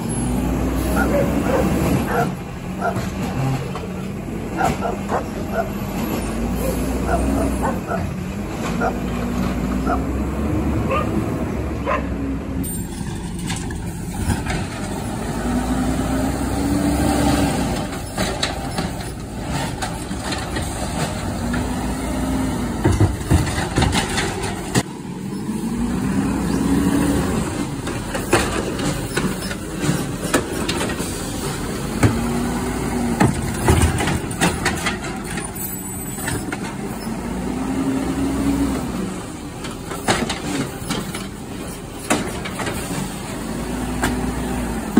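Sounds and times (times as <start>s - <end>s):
garbage truck engine revving: 0.0s - 44.9s.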